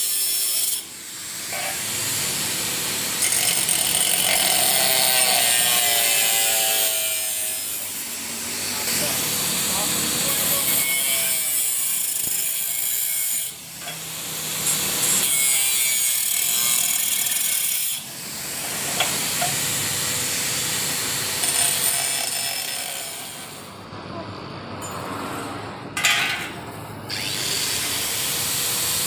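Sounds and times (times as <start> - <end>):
angle grinder cutting steel: 0.0 - 23.7, 24.8 - 29.0.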